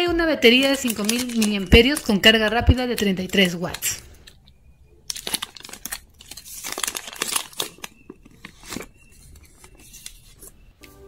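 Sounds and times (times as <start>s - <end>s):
plastic sleeve crinkling: 0.1s - 10.6s.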